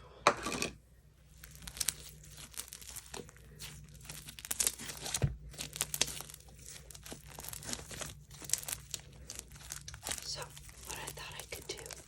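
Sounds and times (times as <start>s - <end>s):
sticky slime crackling and popping: 1.3s - 12.0s.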